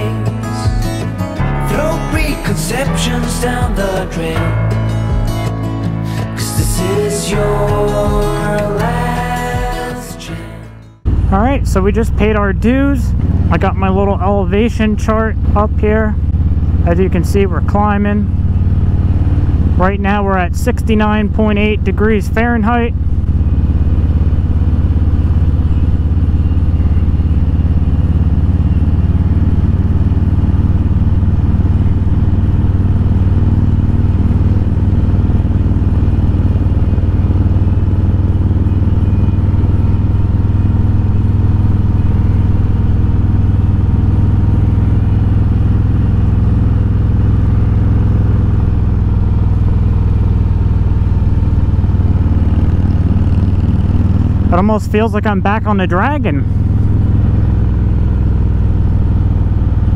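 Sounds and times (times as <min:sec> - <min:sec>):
motorcycle engine under load: 0:10.9 - 0:59.9.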